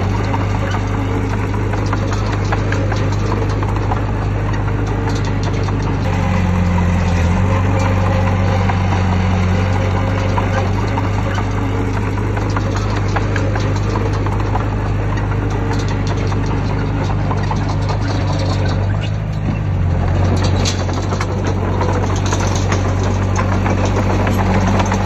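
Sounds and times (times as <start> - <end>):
heavy diesel engine running: 0.0 - 25.0
scattered clicks and knocks: 0.0 - 25.0.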